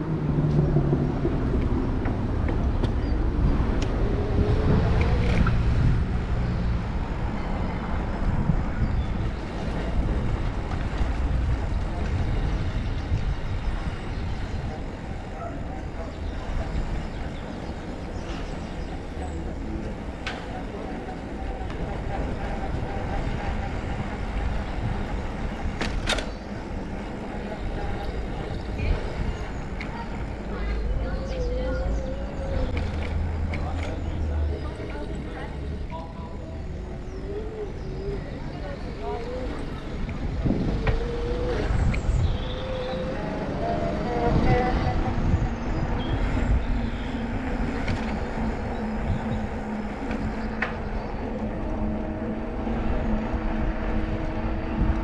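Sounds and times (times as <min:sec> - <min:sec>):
bicycle tyre and wind rumble: 0:00.0 - 0:55.0.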